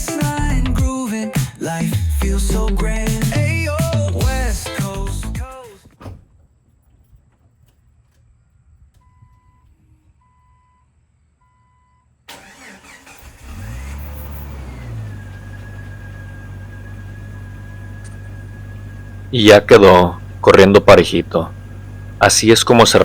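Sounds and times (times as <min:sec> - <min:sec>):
car engine starting and idling: 0:01.9 - 0:10.2, 0:12.3 - 0:23.0.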